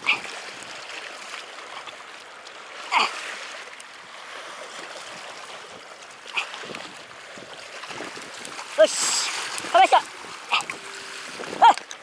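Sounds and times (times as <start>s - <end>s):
water lapping against rocks: 0.0s - 12.0s.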